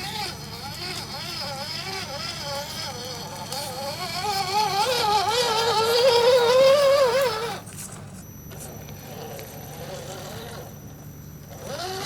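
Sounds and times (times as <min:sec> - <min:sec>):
electric motor and gearbox whining: 0:00.0 - 0:12.0.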